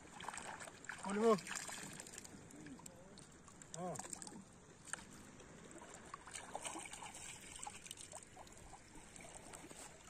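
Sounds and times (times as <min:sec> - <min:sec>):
shallow seawater trickling: 0:00.0 - 0:10.0.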